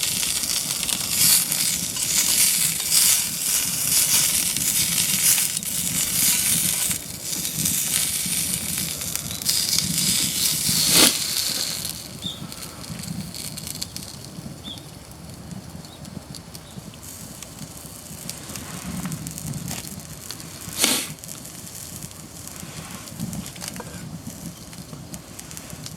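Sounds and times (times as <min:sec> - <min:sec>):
campfire crackling and hissing: 0:00.0 - 0:25.9.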